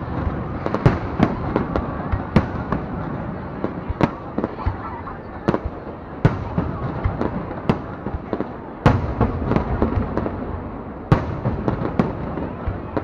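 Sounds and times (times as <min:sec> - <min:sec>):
fireworks bangs and crackles: 0:00.0 - 0:13.0
loud fireworks booms: 0:00.0 - 0:13.0.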